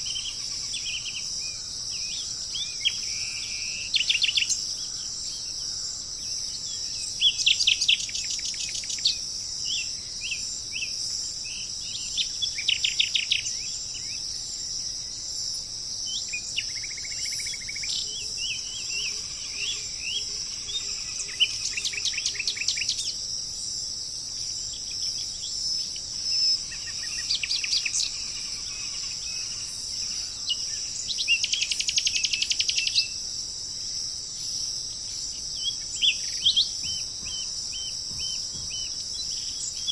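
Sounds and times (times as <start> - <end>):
birds singing rapid notes: 0.0 - 15.2, 16.0 - 23.3, 24.3 - 33.3, 34.4 - 39.9
high-pitched insect drone: 0.0 - 39.9.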